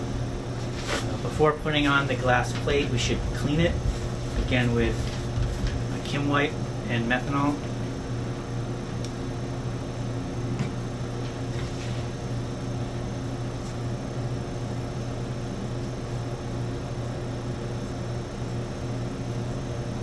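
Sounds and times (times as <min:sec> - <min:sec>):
low equipment hum: 0:00.0 - 0:20.0.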